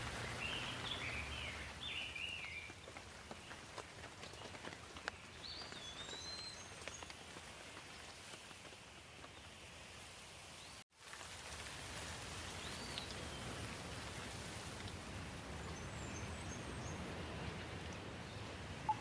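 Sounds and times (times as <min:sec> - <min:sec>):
light rain: 0:00.0 - 0:19.0.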